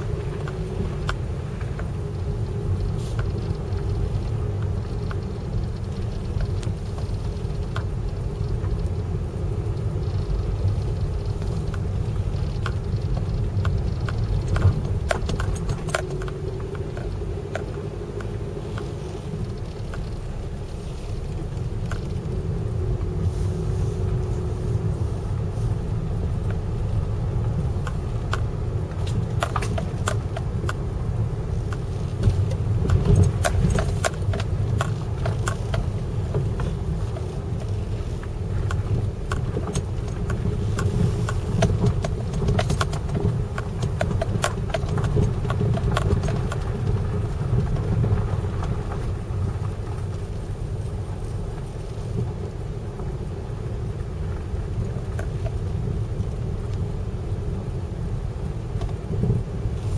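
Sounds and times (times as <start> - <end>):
light rattling and clicking: 0.0 - 56.9
engine rumble: 0.0 - 59.9.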